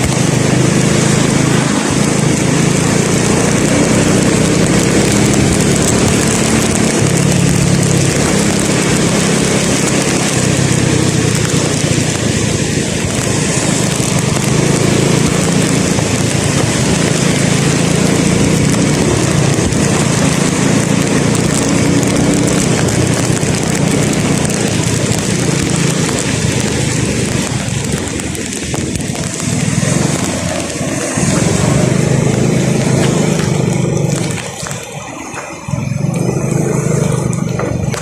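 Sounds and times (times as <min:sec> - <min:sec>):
road and wind hiss: 0:00.0 - 0:38.0
vehicle engine running: 0:00.0 - 0:38.0.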